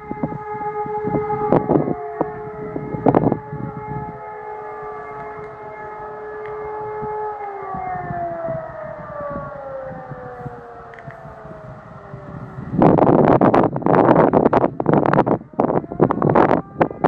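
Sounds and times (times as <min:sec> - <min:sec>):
distant siren multi-tone note: 0:00.0 - 0:17.0.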